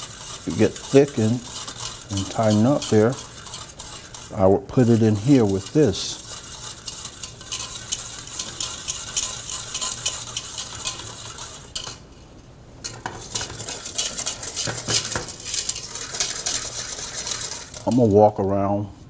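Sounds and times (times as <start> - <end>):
whisk scraping metal saucepan: 0.0 - 12.2, 12.8 - 18.4.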